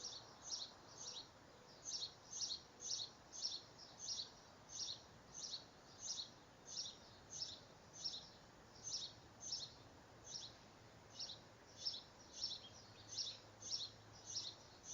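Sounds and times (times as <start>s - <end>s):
faint steady hiss: 0.0s - 14.9s
songbird chirping: 0.0s - 14.9s.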